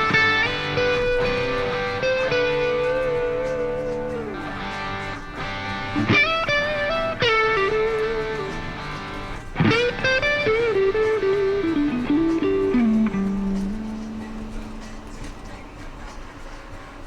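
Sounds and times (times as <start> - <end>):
bluesy electric guitar: 0.0 - 17.0.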